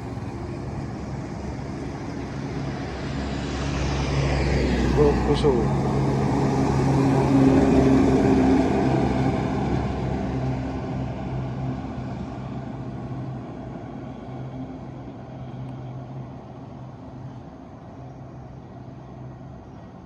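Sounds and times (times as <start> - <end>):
heavy vehicle engine passing: 0.0 - 20.0.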